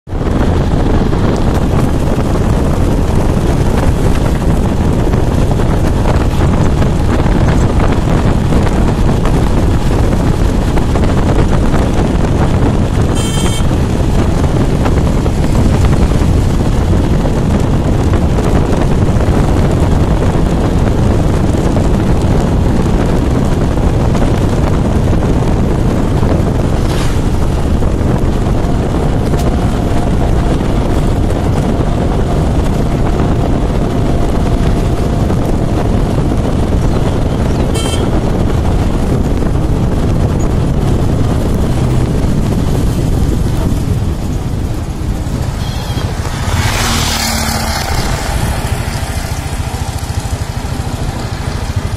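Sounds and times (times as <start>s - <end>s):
vehicle rumble: 0.0s - 51.9s
wind buffeting microphone: 0.1s - 51.9s.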